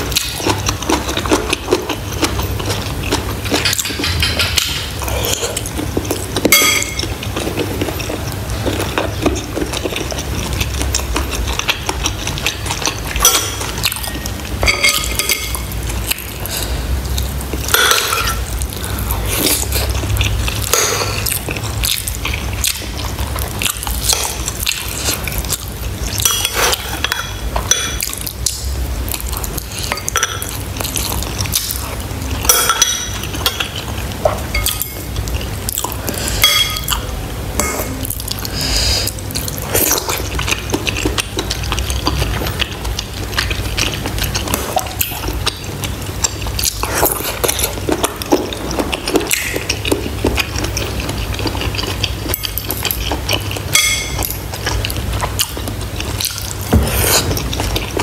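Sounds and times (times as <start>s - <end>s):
chewing: 0.0s - 58.0s
steady low hum: 0.0s - 58.0s.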